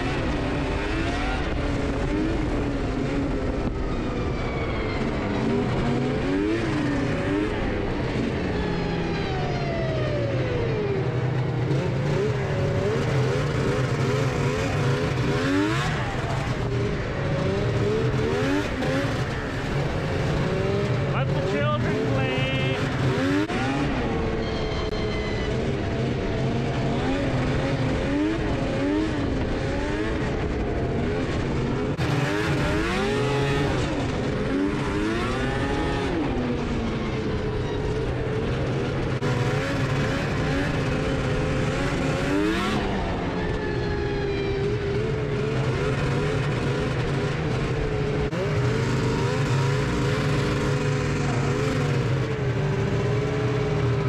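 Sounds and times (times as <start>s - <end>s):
snowmobile engines revving: 0.0s - 4.1s, 4.8s - 54.0s.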